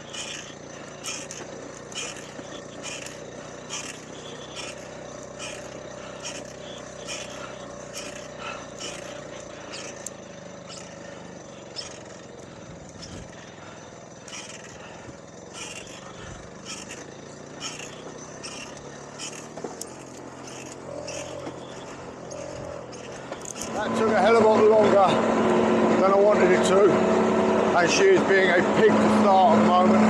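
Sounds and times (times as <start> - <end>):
moped engine running: 0.0 - 30.0.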